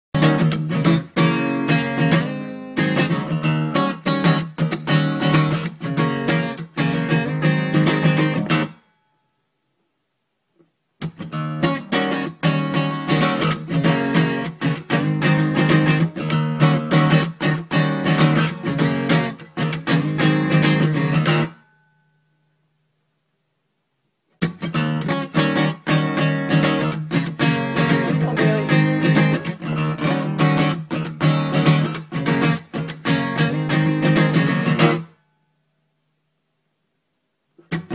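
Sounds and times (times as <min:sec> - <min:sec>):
acoustic guitar strumming: 0:00.2 - 0:09.4, 0:11.0 - 0:22.4, 0:24.3 - 0:35.7, 0:37.6 - 0:37.9.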